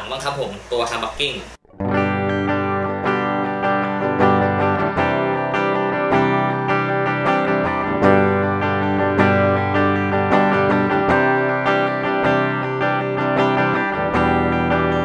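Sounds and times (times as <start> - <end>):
electric guitar chords strummed: 1.6 - 15.0.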